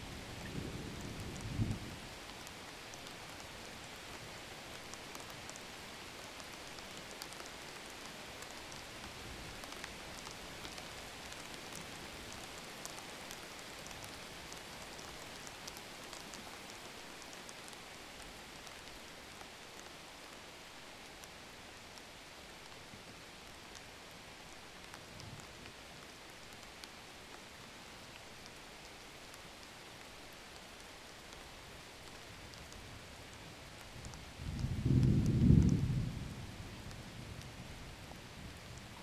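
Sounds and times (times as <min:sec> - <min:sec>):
steady rain hiss: 0:00.0 - 0:39.0
raindrop ticks: 0:00.4 - 0:39.0.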